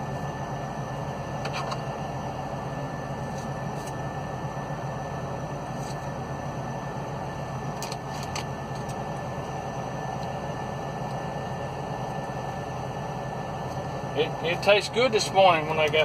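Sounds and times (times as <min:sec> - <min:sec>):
low hum and hiss in truck cab: 0:00.0 - 0:16.0.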